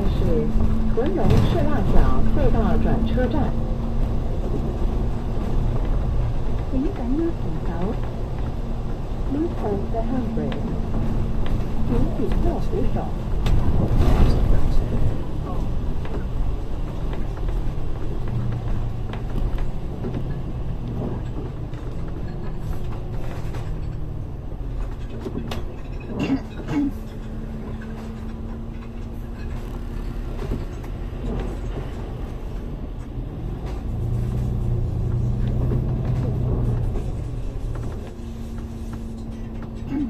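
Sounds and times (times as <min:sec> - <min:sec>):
bus engine and road rumble: 0:00.0 - 0:40.0.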